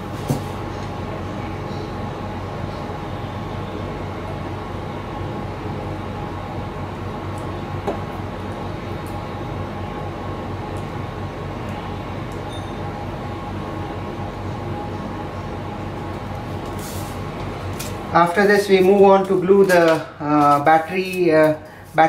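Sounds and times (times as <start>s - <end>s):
steady mechanical hum with tones: 0.0s - 22.0s.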